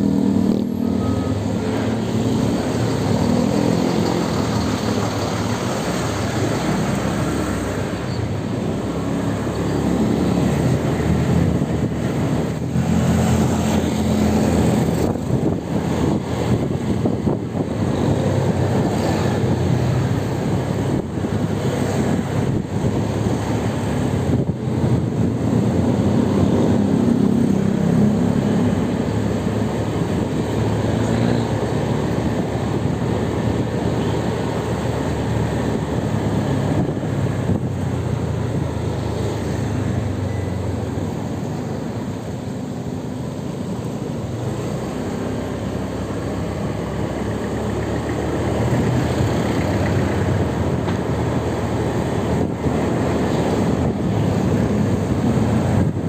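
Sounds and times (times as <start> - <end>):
road vehicles rumbling: 0.0 - 56.0.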